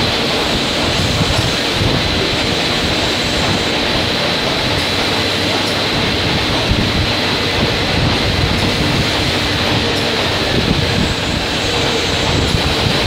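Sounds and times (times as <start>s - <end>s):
factory machinery rumble: 0.0s - 13.0s.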